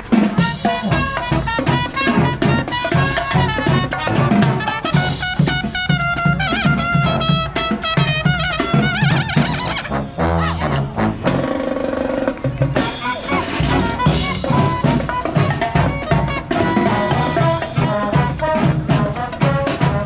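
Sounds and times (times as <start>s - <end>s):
steady drum beat: 0.0s - 20.0s
trumpets and trombones: 0.0s - 20.0s.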